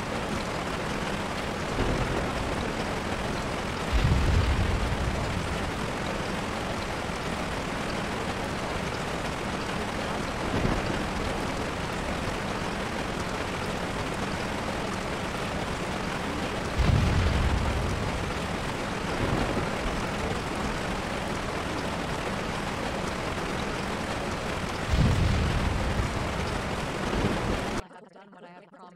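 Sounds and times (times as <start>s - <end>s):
deep rumbles: 0.0s - 27.8s
steady rushing noise: 0.0s - 27.8s.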